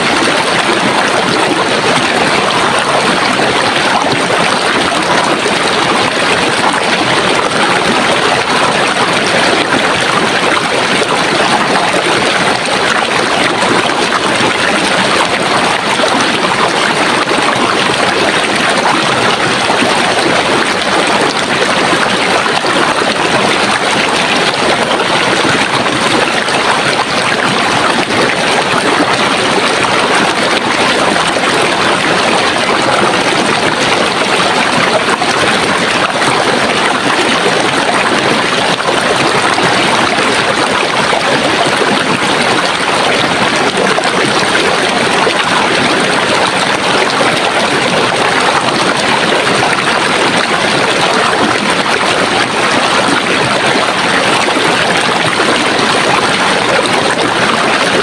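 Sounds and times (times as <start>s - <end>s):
running water flowing: 0.0s - 58.0s.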